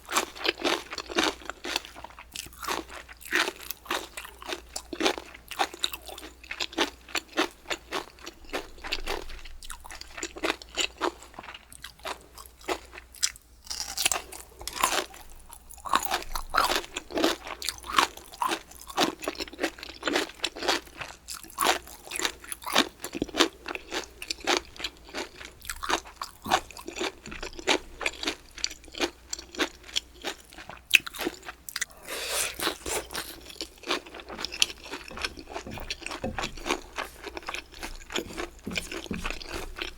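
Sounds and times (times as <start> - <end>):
chewing crisp bamboo shoots: 0.1 - 39.9.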